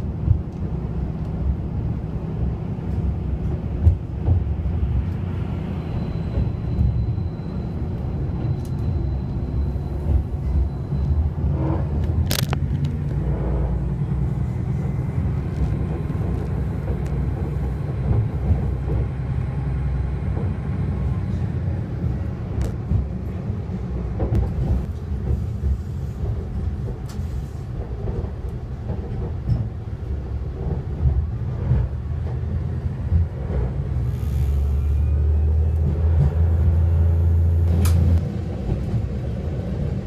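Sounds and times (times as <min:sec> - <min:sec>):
diesel railcar engine rumble: 0:00.0 - 0:40.0.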